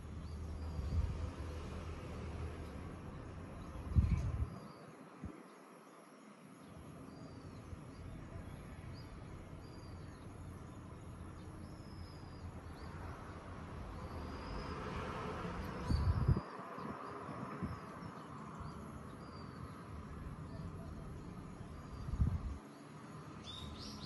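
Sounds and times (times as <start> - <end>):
small birds chirping: 2.5 - 14.8, 15.8 - 24.0.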